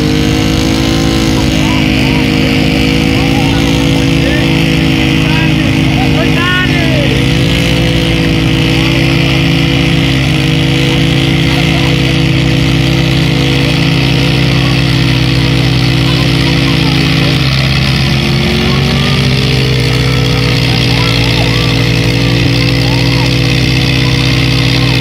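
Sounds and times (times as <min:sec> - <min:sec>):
engines running under heavy load: 0:00.0 - 0:25.0
wheels spinning in dirt: 0:00.0 - 0:25.0.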